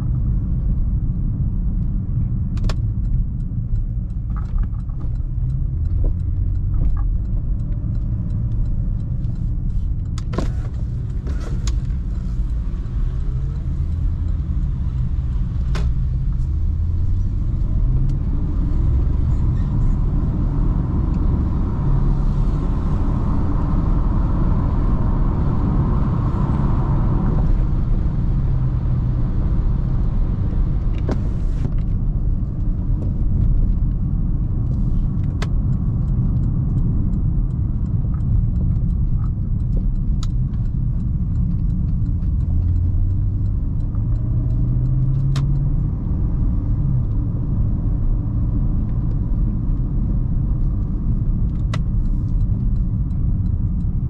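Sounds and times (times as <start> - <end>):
car engine rumbling: 0.0 - 54.0
road noise: 0.0 - 54.0.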